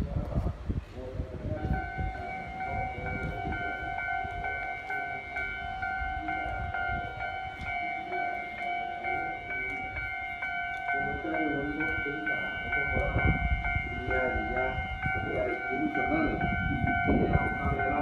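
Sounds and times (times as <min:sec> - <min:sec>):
level crossing warning bell: 0:01.3 - 0:18.0.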